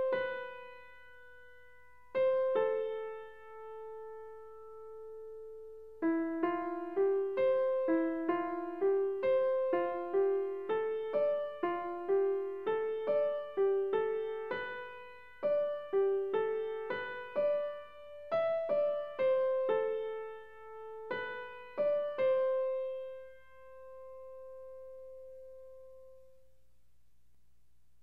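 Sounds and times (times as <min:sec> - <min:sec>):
gentle piano melody: 0:00.0 - 0:26.4.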